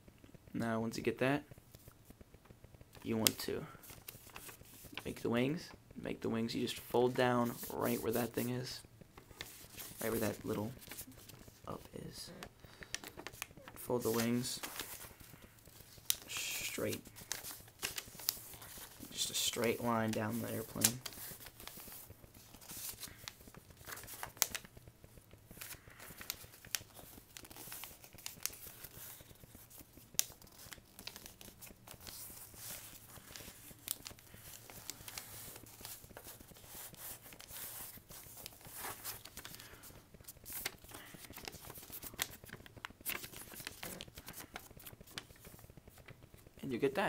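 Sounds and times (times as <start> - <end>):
paper rustling and crackling: 1.7 - 5.8, 6.5 - 47.0.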